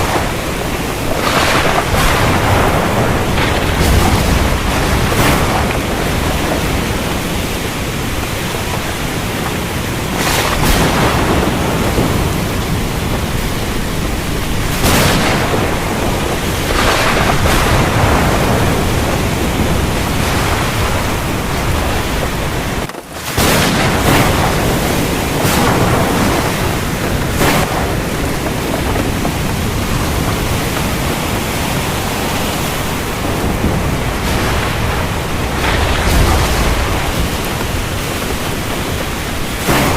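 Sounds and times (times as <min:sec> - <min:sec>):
heavy rain falling: 0:00.0 - 0:39.9
low thunder rumbling: 0:00.0 - 0:39.9.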